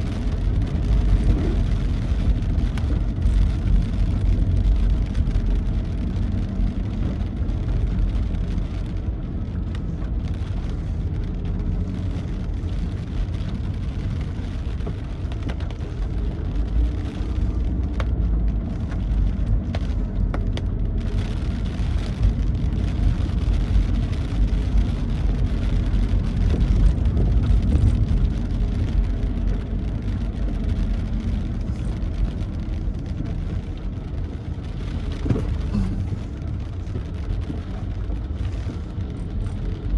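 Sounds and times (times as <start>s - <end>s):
vehicle driving on road: 0.0s - 39.9s.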